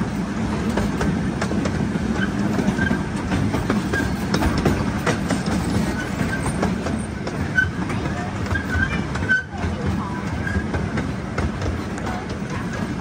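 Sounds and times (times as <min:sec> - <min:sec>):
ride-on train rumbling: 0:00.0 - 0:13.0
wheels clicking over rail joints: 0:00.0 - 0:13.0.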